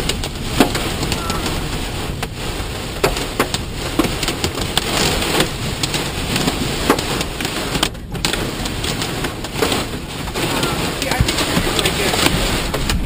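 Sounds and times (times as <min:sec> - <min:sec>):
hailstones ticking: 0:00.0 - 0:13.0
rain on vehicle roof: 0:00.0 - 0:13.0.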